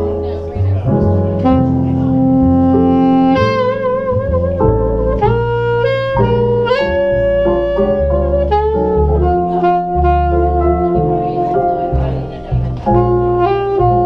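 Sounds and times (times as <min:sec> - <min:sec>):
alto saxophone melody: 0:00.0 - 0:14.0
electric keyboard chords: 0:00.0 - 0:14.0
plucked upright bass: 0:00.0 - 0:14.0.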